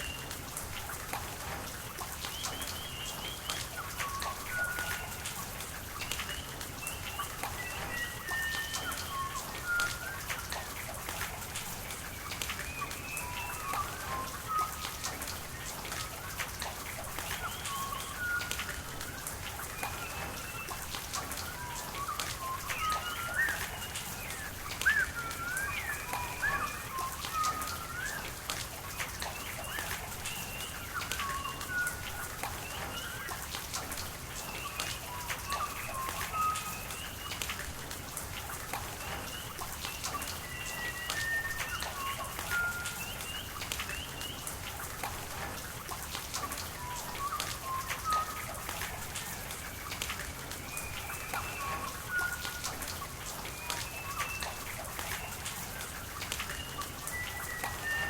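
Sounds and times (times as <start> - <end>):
rain pattering: 0.0 - 58.0
running water: 0.0 - 58.0
birds chirping and whistling: 2.2 - 5.3, 6.0 - 11.4, 12.0 - 16.2, 17.2 - 33.5, 34.4 - 37.6, 38.8 - 44.5, 46.7 - 49.9, 50.5 - 58.0.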